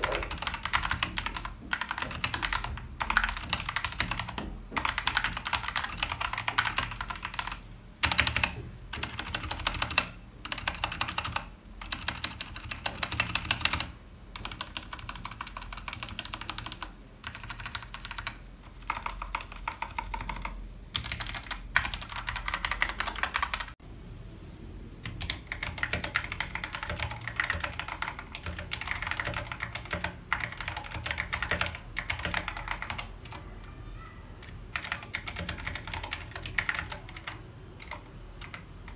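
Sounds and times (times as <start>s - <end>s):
mechanical keyboard typing: 0.0s - 23.8s, 25.0s - 33.5s, 34.4s - 38.9s.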